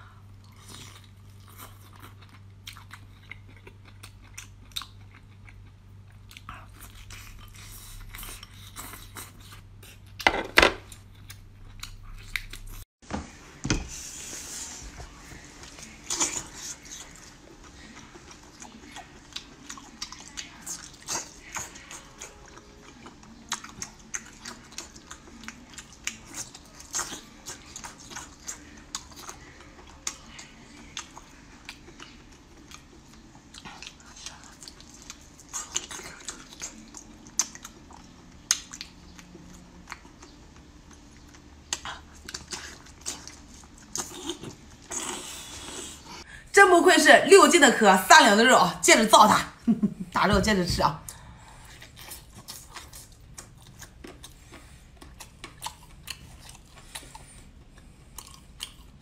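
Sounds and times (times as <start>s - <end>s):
person chewing with mouth clicks: 0.4s - 10.2s, 15.8s - 46.0s, 51.1s - 59.0s.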